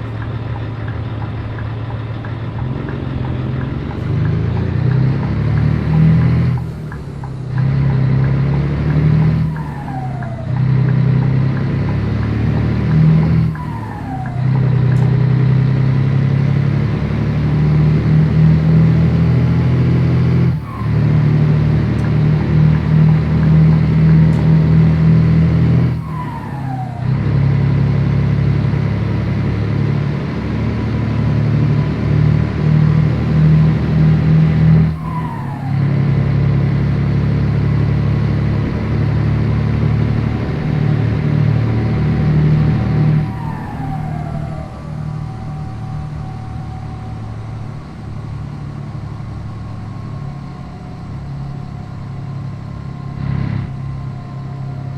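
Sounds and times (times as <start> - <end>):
diesel truck engine accelerating: 0.0 - 54.9.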